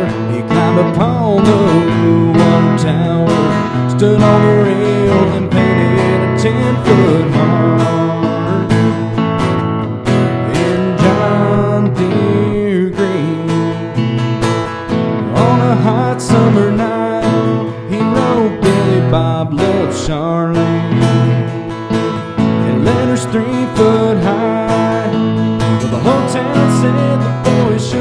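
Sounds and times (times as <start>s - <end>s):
electric guitar lead lines: 0.0s - 28.0s
strummed acoustic guitar: 0.0s - 28.0s.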